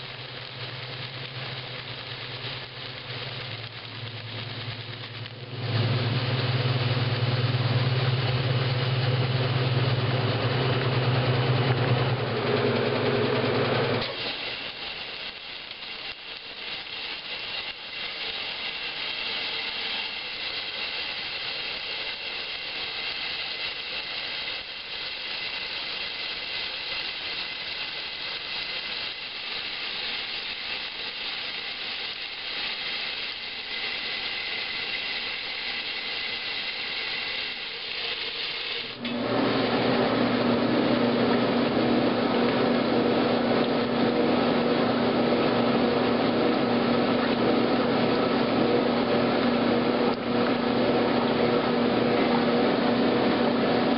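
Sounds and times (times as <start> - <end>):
washer motor hum: 0.0 - 53.9
washing machine water rushing: 0.0 - 53.9.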